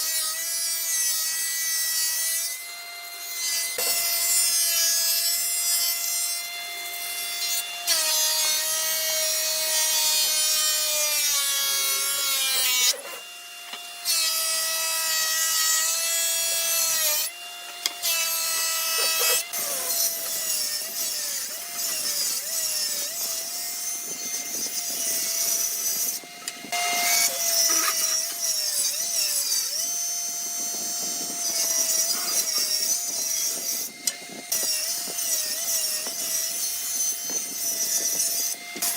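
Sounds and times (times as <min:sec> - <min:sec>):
power saw cutting wood: 0:00.0 - 0:38.9.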